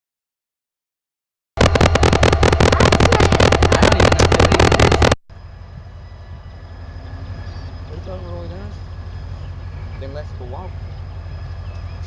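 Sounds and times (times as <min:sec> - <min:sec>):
loud crackly diesel engine: 0:01.6 - 0:12.0
steady low rumble: 0:01.6 - 0:12.0.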